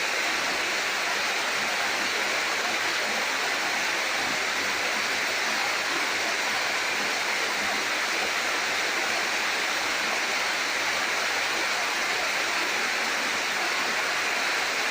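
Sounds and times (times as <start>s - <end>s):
waterfall rushing and splashing: 0.0s - 14.9s.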